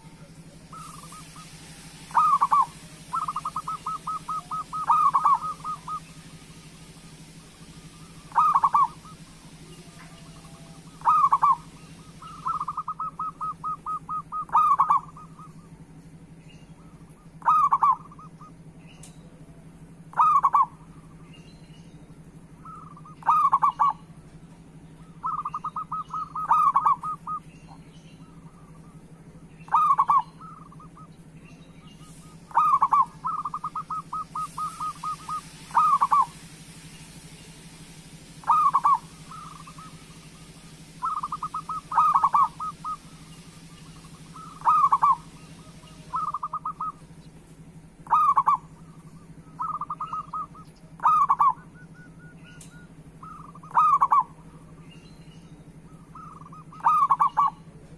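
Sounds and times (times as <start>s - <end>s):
dove cooing: 0.0s - 15.8s, 17.3s - 18.6s, 20.0s - 21.2s, 22.6s - 24.2s, 25.0s - 31.1s, 32.0s - 37.2s, 38.2s - 47.2s, 48.0s - 54.8s, 55.8s - 57.9s
faint low hum: 0.0s - 57.9s.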